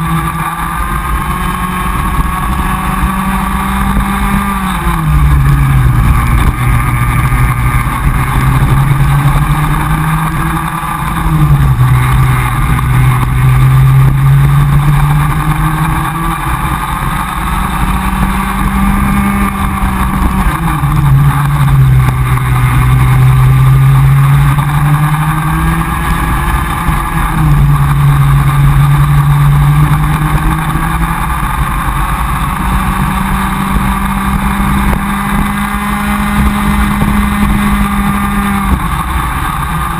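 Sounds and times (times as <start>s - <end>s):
kart two-stroke engine revving: 0.0s - 39.9s.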